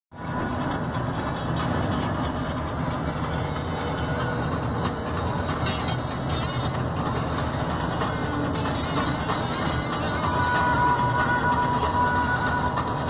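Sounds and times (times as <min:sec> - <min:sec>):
low engine hum: 0:00.1 - 0:13.0
road and tyre noise: 0:00.1 - 0:13.0.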